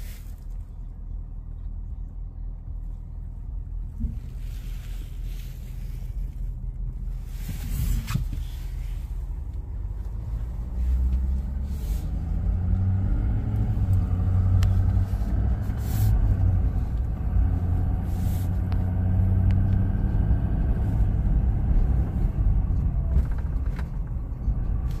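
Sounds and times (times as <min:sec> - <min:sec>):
truck engine and tyres rumbling: 0:00.0 - 0:25.0.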